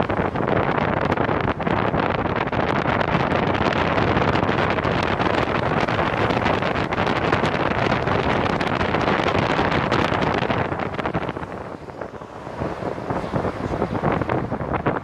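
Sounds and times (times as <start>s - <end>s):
wind rushing over microphones: 0.0s - 15.0s.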